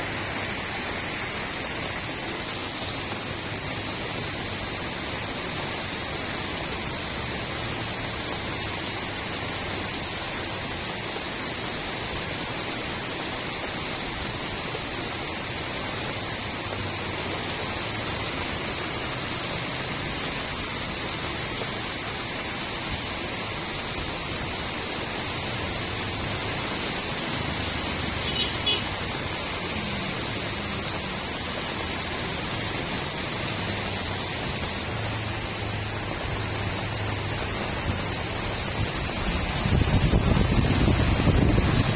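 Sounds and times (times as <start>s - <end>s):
running water gurgling: 0.0s - 40.4s
rain falling on a street: 0.0s - 41.9s.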